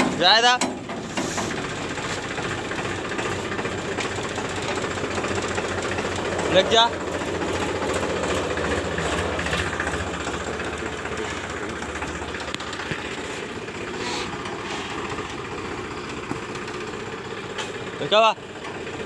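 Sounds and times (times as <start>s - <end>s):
tractor diesel engine rumbling: 0.0s - 19.0s.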